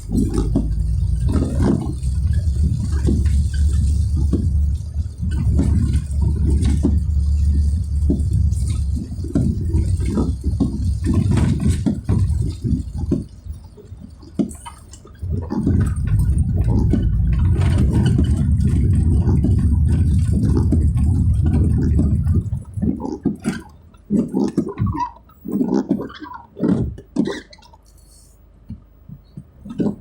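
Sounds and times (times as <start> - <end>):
car driving on wet road: 0.0 - 24.3.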